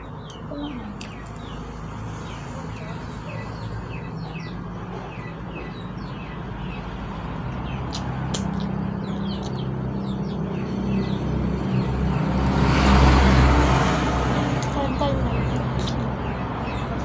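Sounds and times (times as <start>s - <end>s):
small birds chirping: 0.0s - 17.0s
vehicle engine approaching: 0.0s - 17.0s.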